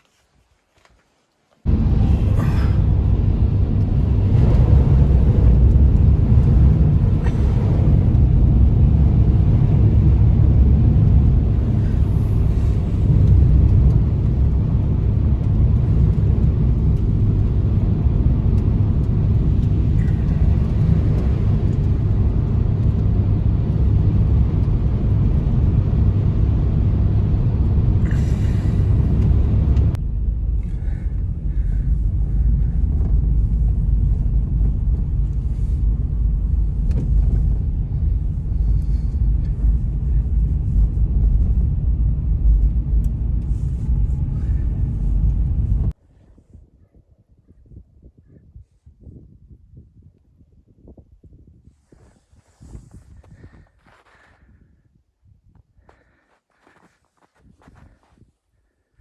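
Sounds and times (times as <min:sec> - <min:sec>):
strong blizzard wind: 0:01.6 - 0:59.0.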